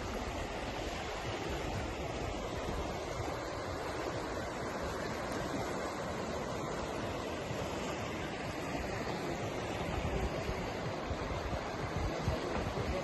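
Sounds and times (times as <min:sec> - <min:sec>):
water rushing: 0:00.0 - 0:13.0
wind rumble on microphone: 0:00.0 - 0:13.0.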